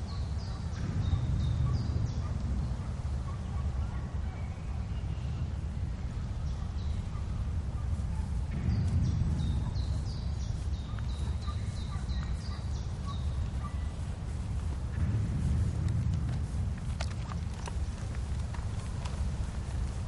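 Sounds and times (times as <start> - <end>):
bird chirping downward notes: 0.0 - 18.3
steady low rumble: 0.0 - 20.0.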